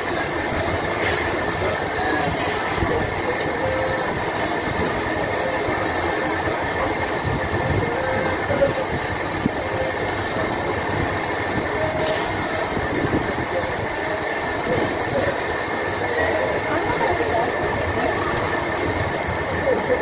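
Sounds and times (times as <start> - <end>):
indistinct chatter: 0.0 - 20.0.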